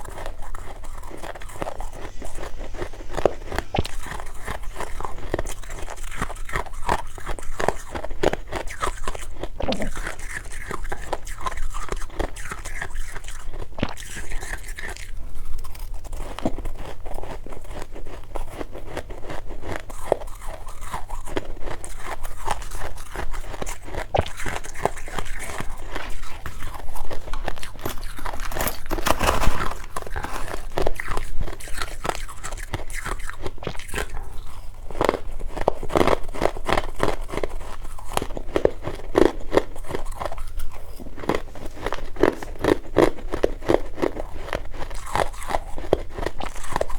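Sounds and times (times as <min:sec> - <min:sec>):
chewing crunchy ice: 0:00.0 - 0:46.9.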